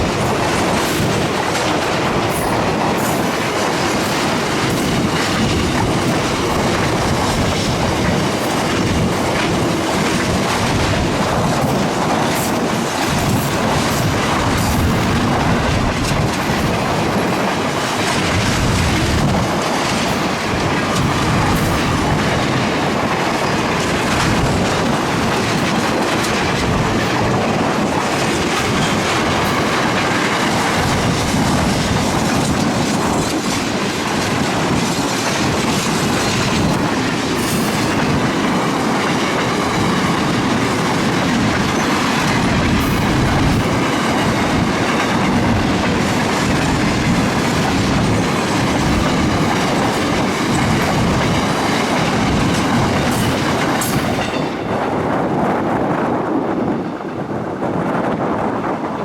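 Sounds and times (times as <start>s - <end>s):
steel wheels clicking over rail joints: 0.0s - 54.7s
freight train wagons rolling past: 0.0s - 59.0s.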